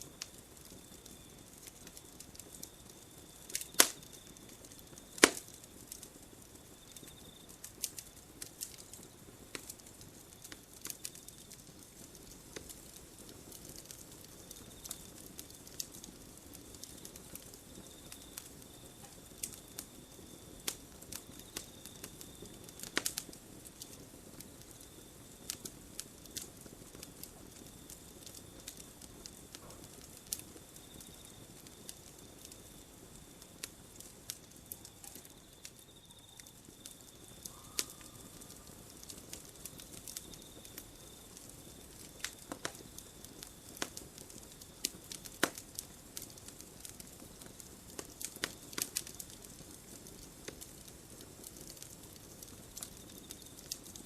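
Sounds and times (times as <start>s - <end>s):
campfire crackling and popping: 0.0s - 54.0s
night insects trilling: 0.0s - 54.0s.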